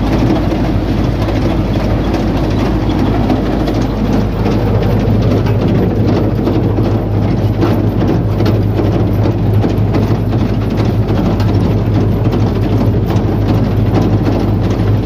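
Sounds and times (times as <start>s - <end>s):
mechanical rattle: 0.0s - 15.0s
threshing machine running: 0.0s - 15.0s.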